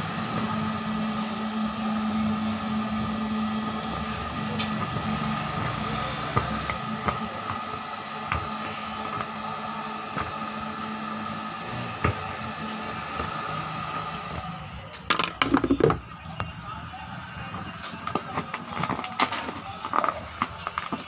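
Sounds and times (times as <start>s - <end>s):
hot air gun humming and whining: 0.0s - 21.0s.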